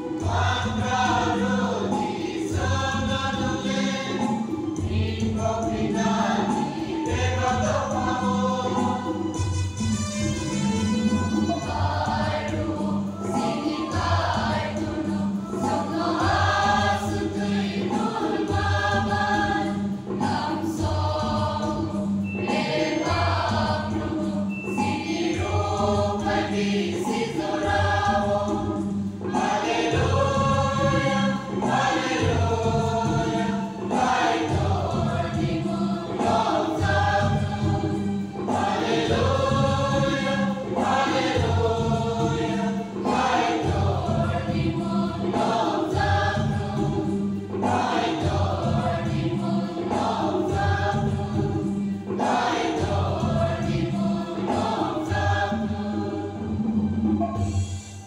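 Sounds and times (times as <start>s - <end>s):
choir singing a gospel song: 0.0s - 58.0s.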